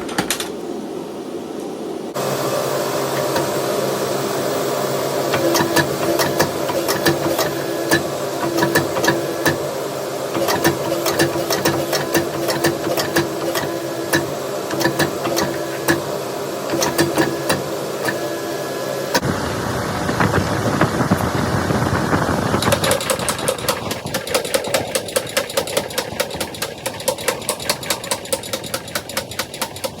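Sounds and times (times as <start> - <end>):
steady mechanical hum: 0.0 - 30.0.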